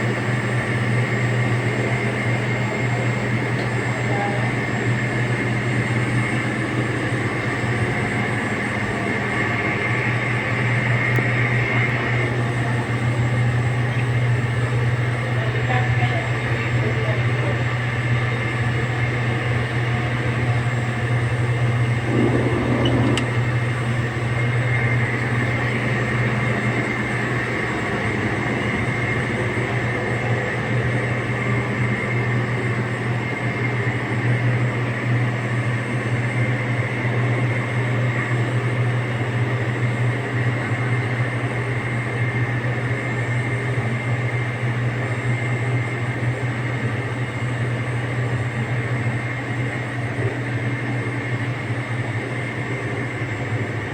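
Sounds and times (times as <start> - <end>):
boiler machinery drone: 0.0 - 53.9.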